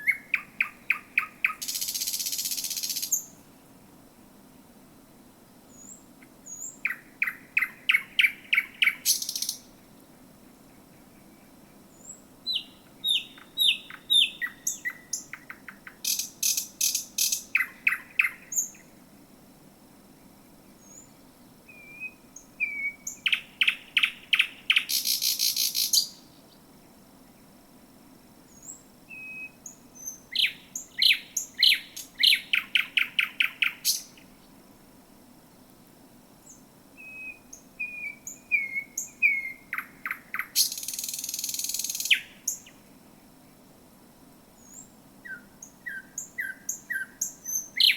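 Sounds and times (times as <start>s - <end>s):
nightingale singing: 0.0s - 3.6s, 5.7s - 9.8s, 10.6s - 19.0s, 20.2s - 27.5s, 28.5s - 34.6s, 36.4s - 42.8s, 44.6s - 47.9s.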